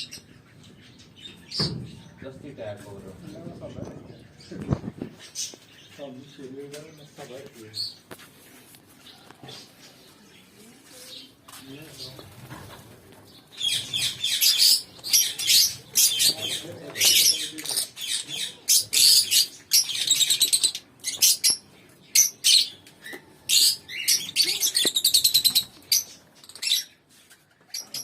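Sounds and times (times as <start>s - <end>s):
birds chirping and chattering: 0.0s - 28.0s.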